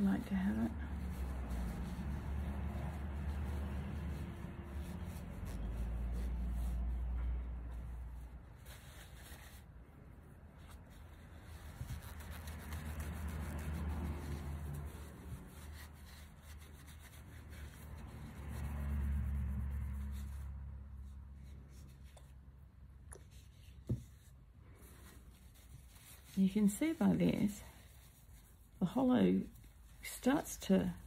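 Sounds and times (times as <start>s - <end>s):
tissue rubbing on ceramic mug: 0.0s - 22.4s, 23.2s - 31.0s.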